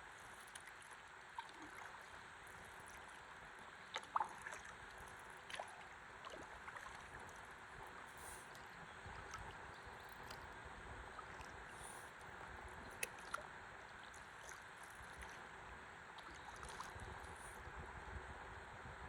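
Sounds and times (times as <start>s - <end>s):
river water lapping: 0.0s - 17.7s.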